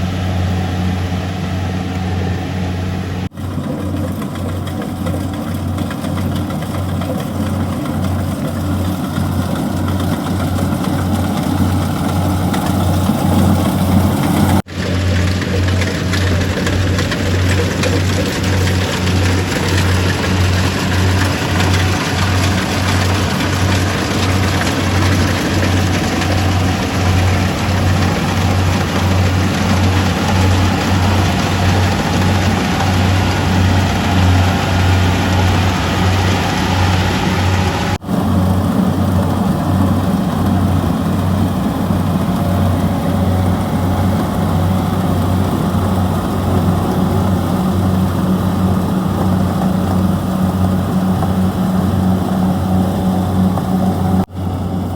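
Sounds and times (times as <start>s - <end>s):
combine harvester engine hum: 0.0s - 54.9s.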